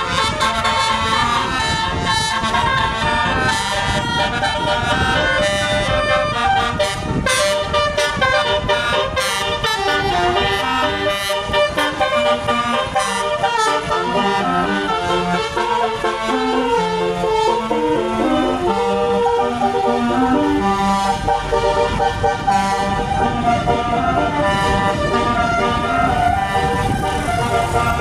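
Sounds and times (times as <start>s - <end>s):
bus engine rumble: 0.0s - 28.0s
musical bus horn melody: 0.0s - 28.0s.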